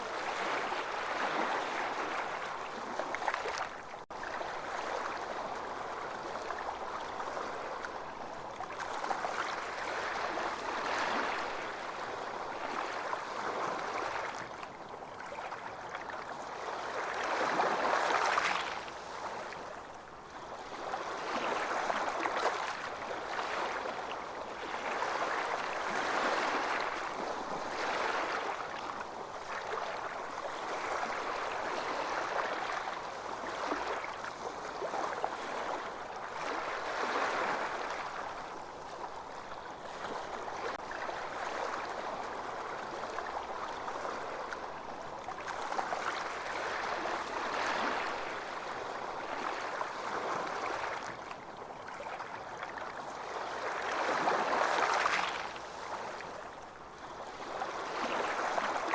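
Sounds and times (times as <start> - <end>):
ocean waves washing on beach: 0.0 - 58.9.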